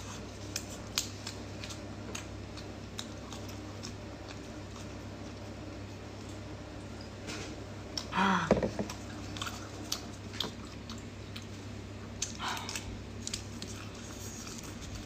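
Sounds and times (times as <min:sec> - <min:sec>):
faint steady hum: 0:00.0 - 0:15.0
chewing shrimp: 0:00.1 - 0:06.7, 0:08.9 - 0:15.0.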